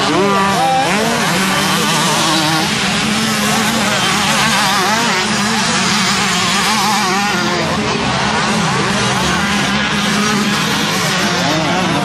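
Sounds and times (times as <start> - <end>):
low engine drone: 0.0 - 12.0
motocross bikes revving: 0.0 - 12.0.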